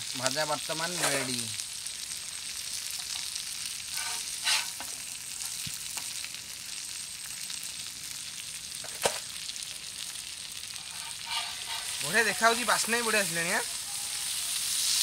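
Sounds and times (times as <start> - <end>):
oil sizzling under frying fish: 0.0 - 15.0.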